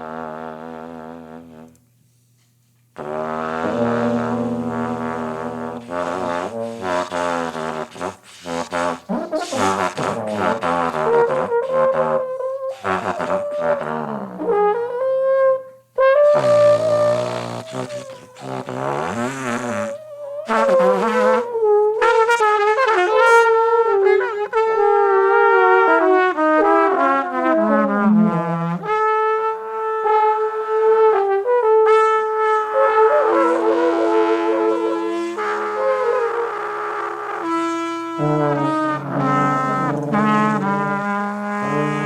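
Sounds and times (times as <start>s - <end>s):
trombone improvising: 0.0s - 1.8s, 3.0s - 42.0s
trumpet improvising: 0.0s - 42.0s.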